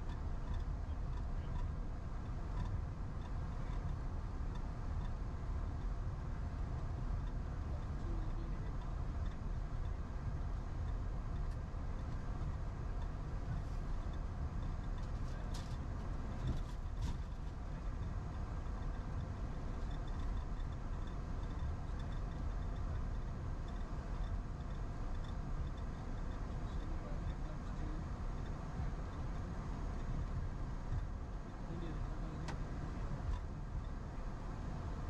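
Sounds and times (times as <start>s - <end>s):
airliner rumble while taxiing: 0.0s - 35.0s.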